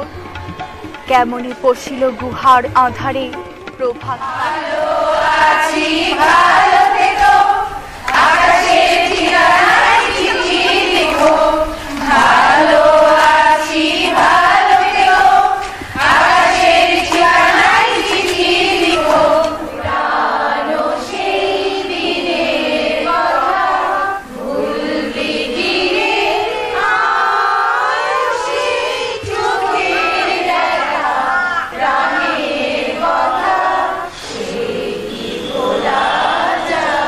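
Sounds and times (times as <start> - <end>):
women singing together: 4.0 - 37.0.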